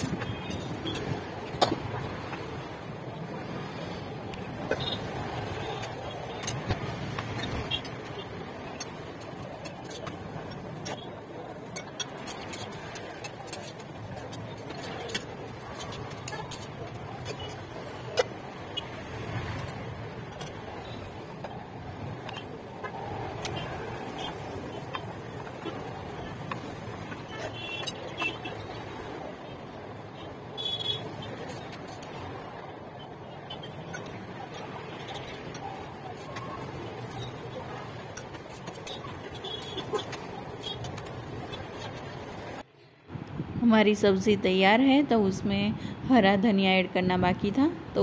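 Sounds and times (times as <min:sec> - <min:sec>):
steady rushing noise: 0:00.0 - 0:48.0.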